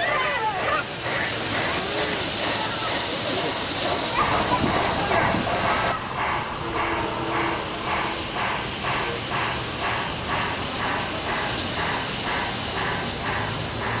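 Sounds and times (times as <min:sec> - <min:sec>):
model train running on track: 0:00.0 - 0:14.0.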